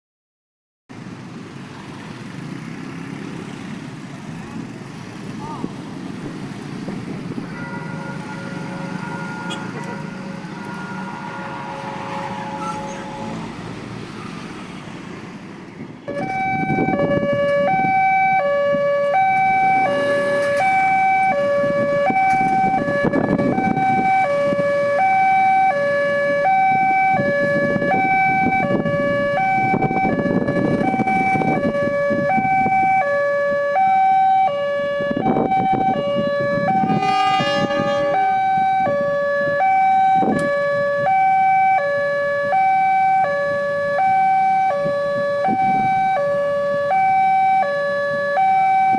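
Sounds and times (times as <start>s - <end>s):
road traffic rumble: 0.9s - 48.9s.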